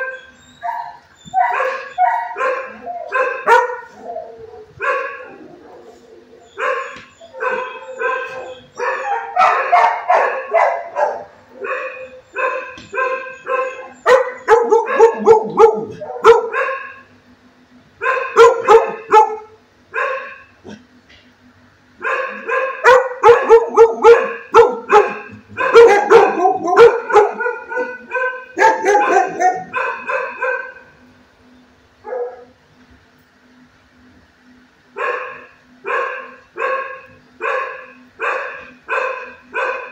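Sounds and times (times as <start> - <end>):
dog barking: 0.0 - 6.0, 6.6 - 17.1, 18.0 - 20.5, 22.0 - 30.9, 32.0 - 32.5, 35.0 - 39.9.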